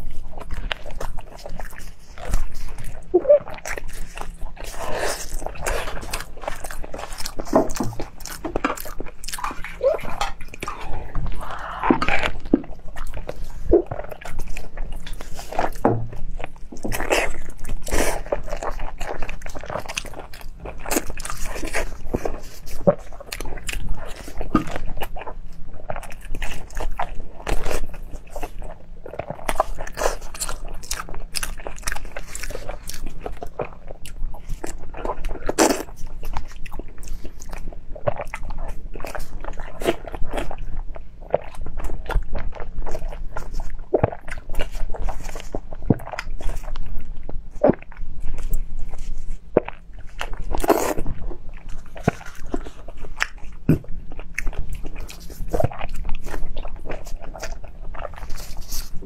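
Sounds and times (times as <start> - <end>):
person biting and chewing: 0.0 - 59.0.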